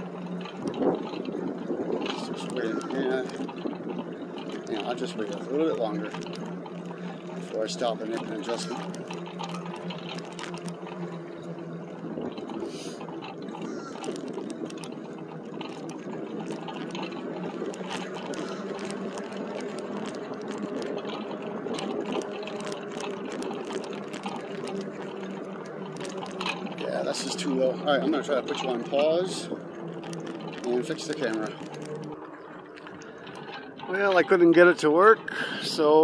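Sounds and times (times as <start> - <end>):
rushing of tyres and air: 0.0 - 34.3, 35.2 - 36.0
electric motor hum: 0.0 - 36.0
small rattling ticks: 0.0 - 36.0.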